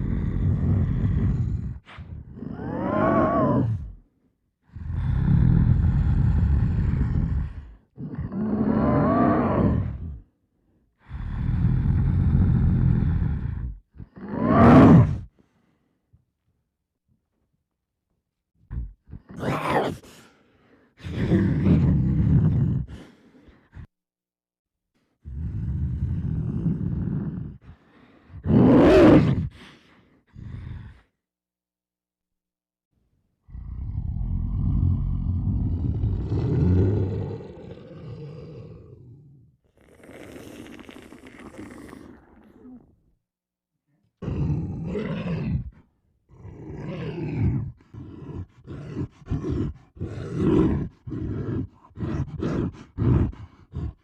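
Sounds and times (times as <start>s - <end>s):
man performing monster growls: 0.0s - 10.4s, 11.0s - 15.3s, 18.7s - 23.9s, 25.2s - 31.2s, 33.4s - 43.1s, 44.1s - 54.0s.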